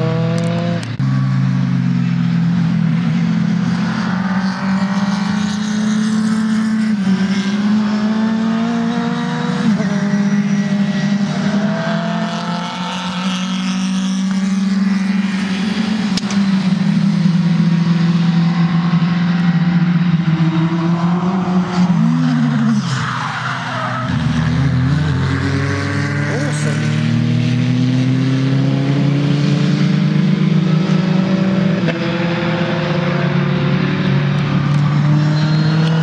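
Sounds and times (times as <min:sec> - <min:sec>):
racing car engines at high revs: 0:00.0 - 0:36.0.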